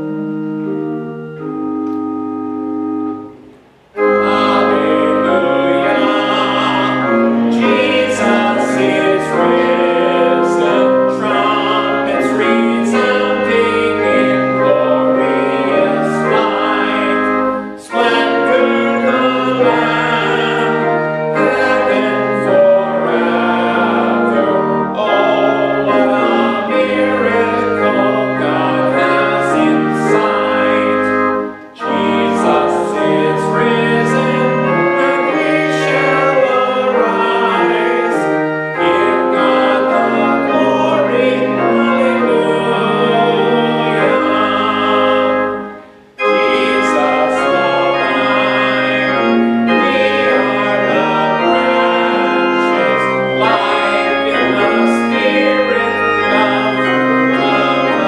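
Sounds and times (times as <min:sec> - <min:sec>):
keyboard accompaniment: 0:00.0 - 0:58.0
sustained organ chord: 0:00.0 - 0:58.0
voices singing a hymn: 0:00.0 - 0:58.0.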